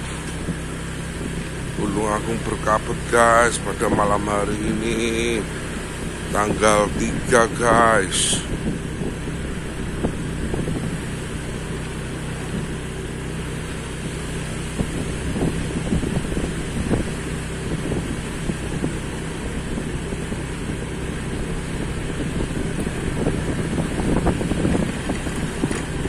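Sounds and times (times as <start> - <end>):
vehicle engine running: 0.0 - 26.0
wind buffeting microphone: 0.0 - 26.0.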